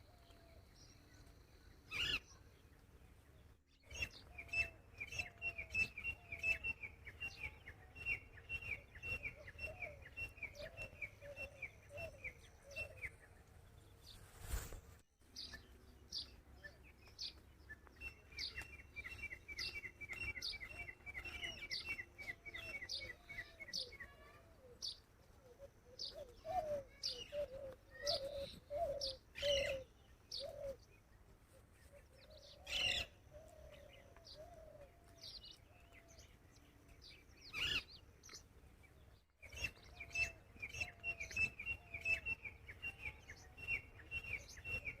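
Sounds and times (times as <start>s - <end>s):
lower bird calls: 3.8s - 45.0s.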